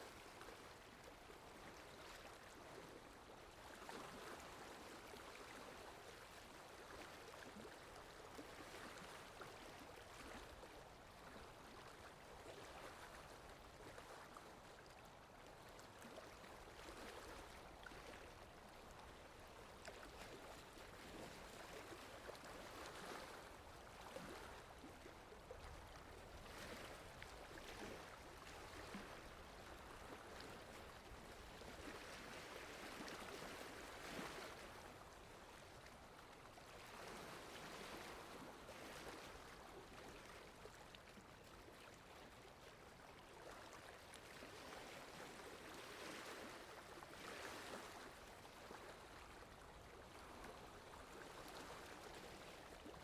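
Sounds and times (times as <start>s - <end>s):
water lapping gently: 0.0s - 53.0s.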